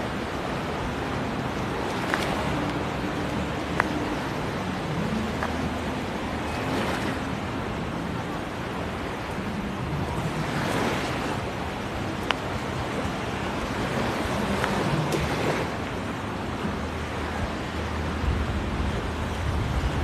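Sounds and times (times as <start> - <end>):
surf washing onto sand: 0.0 - 20.0
wind on microphone: 0.0 - 20.0.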